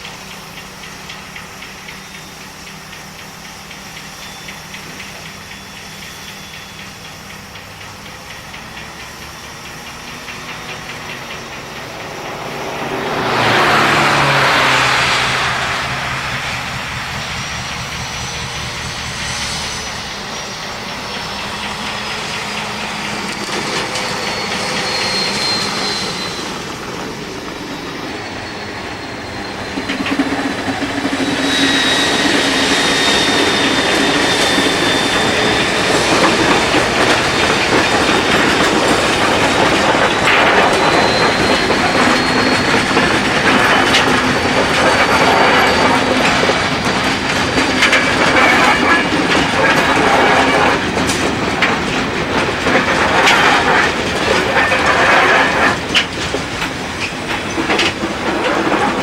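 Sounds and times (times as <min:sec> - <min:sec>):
high flange squeal: 0:00.0 - 0:59.0.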